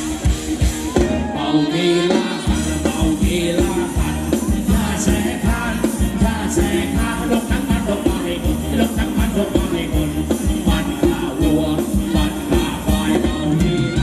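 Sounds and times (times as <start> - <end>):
fast drum beat: 0.0 - 14.0
live dance band music: 0.0 - 14.0
person singing: 0.8 - 14.0.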